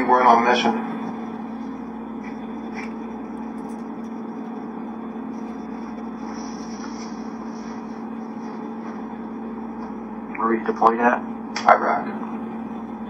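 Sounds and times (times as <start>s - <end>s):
continuous low tone: 0.0s - 13.0s
room noise hum and hiss: 0.0s - 13.0s.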